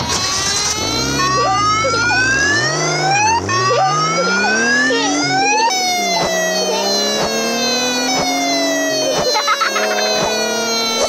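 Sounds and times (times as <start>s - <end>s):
cartoon police siren wailing: 0.0s - 11.0s.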